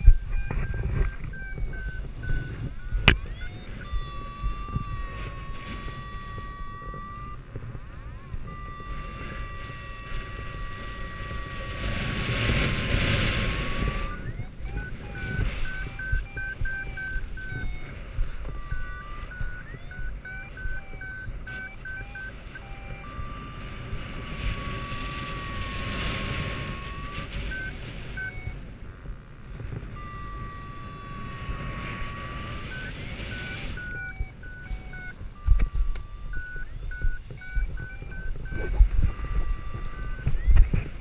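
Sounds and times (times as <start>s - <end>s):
variometer beeping: 0.0s - 41.0s
variometer long held tones: 0.0s - 41.0s
wind on microphone: 0.0s - 41.0s.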